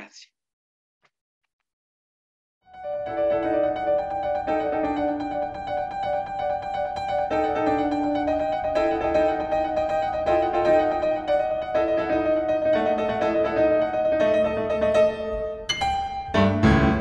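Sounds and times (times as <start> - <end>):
piano-like keyboard music: 2.7 - 17.0.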